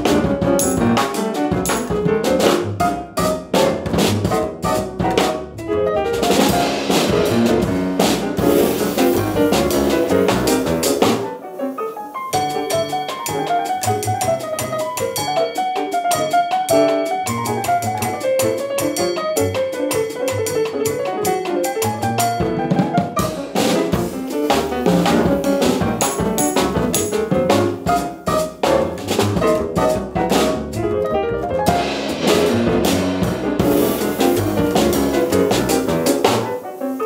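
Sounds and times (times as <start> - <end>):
double bass: 0.0 - 11.3, 12.9 - 15.4, 17.0 - 36.6
drum kit and cymbals: 0.0 - 37.0
piano: 0.0 - 37.0.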